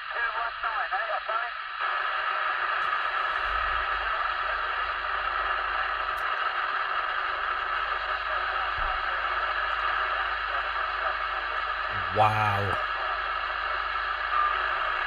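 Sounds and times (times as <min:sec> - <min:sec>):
radio interference hiss: 0:00.0 - 0:15.0.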